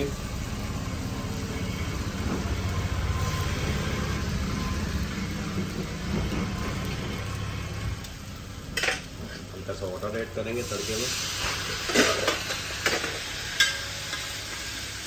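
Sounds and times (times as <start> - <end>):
ghee frying hiss: 0.0 - 15.0
low rumble of gas flame: 0.0 - 15.0.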